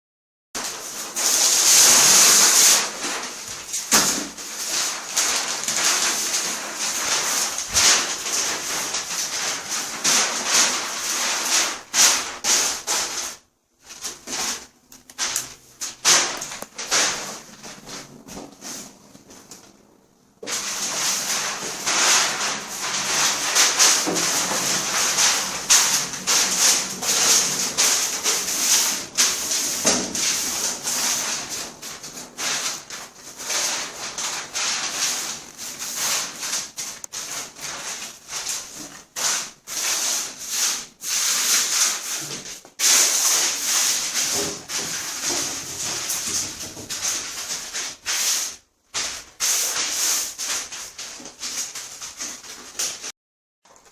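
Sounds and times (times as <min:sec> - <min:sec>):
abrasive rubbing on bathtub: 0:00.6 - 0:53.1.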